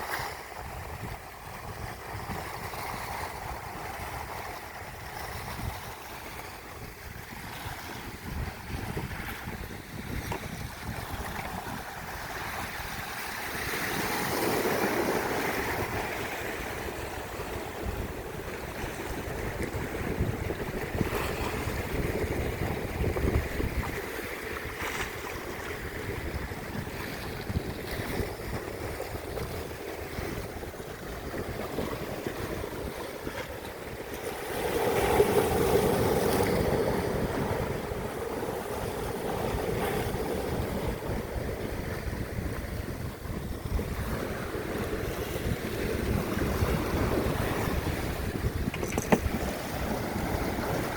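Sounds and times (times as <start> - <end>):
sea waves breaking: 0.0 - 50.9
wind buffeting microphone: 0.0 - 50.9.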